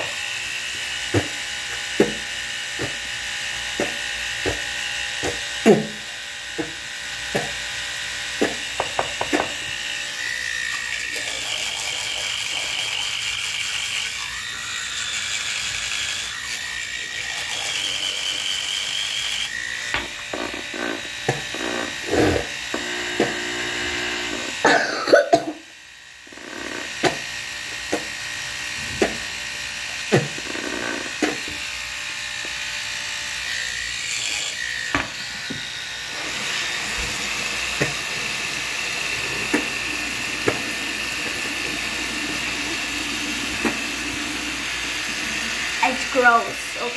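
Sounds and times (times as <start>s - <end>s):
electric toothbrush buzzing: 0.0s - 46.9s.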